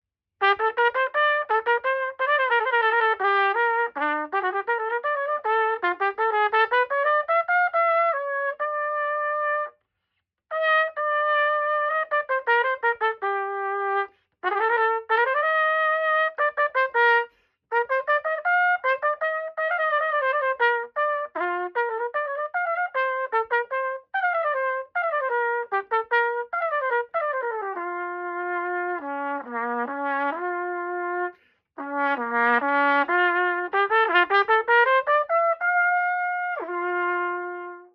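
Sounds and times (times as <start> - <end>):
solo trumpet playing runs: 0.4 - 9.8, 10.5 - 37.9.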